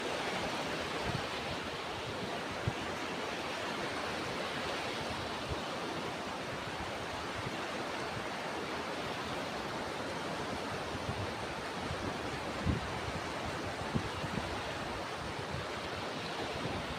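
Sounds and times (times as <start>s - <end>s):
ocean surf washing: 0.0s - 16.9s.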